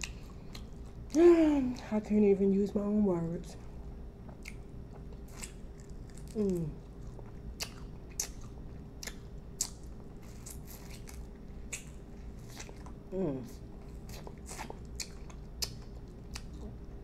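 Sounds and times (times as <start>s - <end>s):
crunchy chewing: 0.0s - 1.2s, 4.2s - 16.9s.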